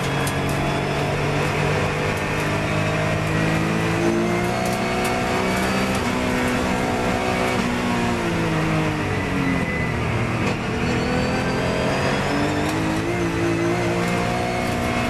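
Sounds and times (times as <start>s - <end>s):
race car engine accelerating: 0.0s - 15.0s
road and tyre noise: 0.0s - 15.0s.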